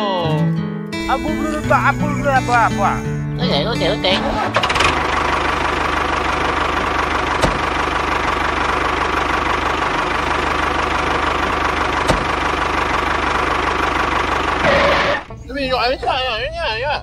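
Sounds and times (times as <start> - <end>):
tractor engine chugging: 1.0 - 16.6.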